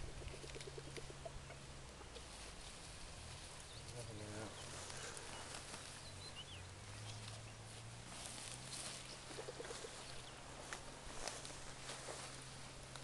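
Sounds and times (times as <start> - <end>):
rustling and crackling of grass: 0.0 - 13.0.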